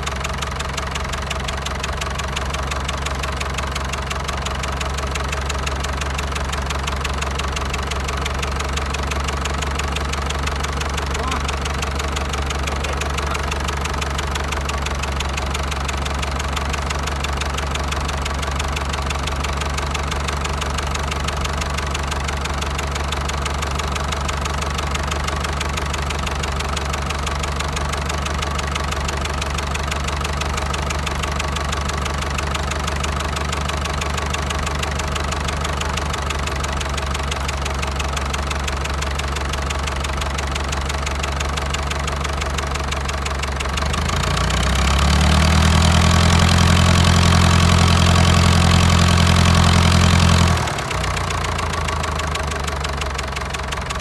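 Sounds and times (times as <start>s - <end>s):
diesel engine knocking: 0.0s - 54.0s.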